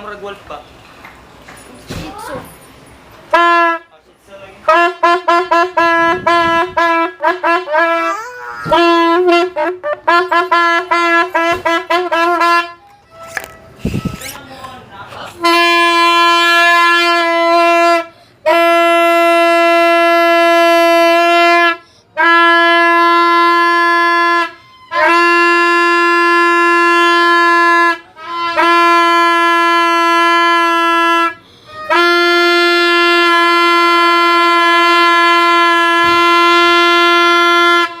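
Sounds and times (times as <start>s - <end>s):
horn blasts: 3.3s - 4.0s, 4.6s - 14.4s, 15.4s - 38.0s.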